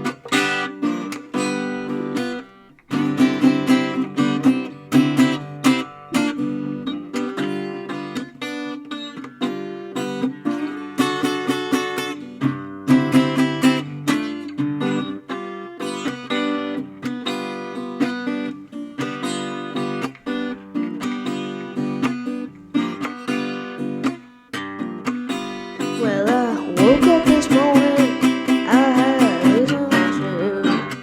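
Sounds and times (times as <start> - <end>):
acoustic guitar playing blues: 0.0 - 31.0.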